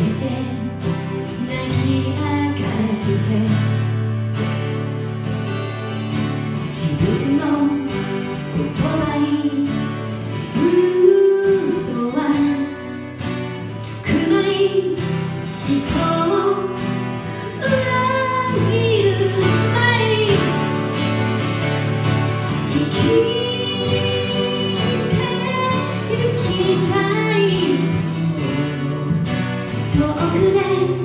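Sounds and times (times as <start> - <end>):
woman singing: 0.0 - 4.0, 6.6 - 21.2, 22.6 - 31.0
strummed acoustic guitars: 0.0 - 31.0.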